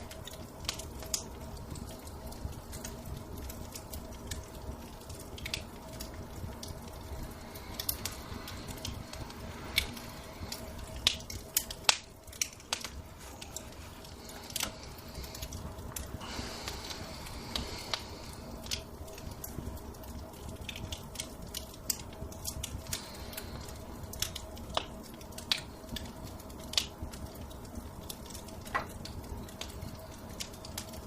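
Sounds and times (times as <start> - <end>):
low rumble of fire: 0.0 - 31.0
sharp pops of fire: 0.0 - 31.0.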